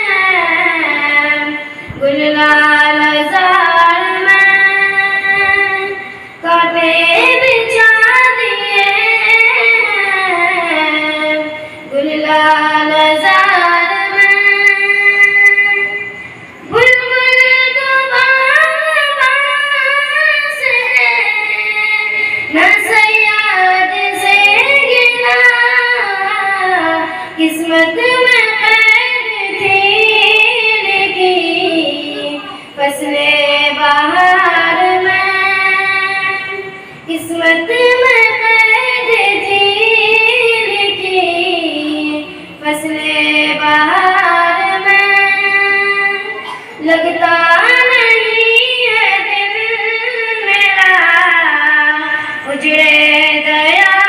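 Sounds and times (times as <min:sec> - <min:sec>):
girl singing a devotional hymn: 0:00.0 - 0:54.0.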